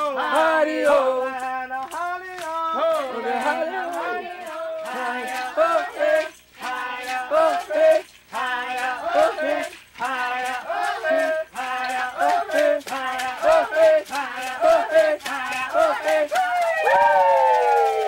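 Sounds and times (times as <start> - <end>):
group singing: 0.0 - 18.0
hand rattle shaken: 0.0 - 18.0.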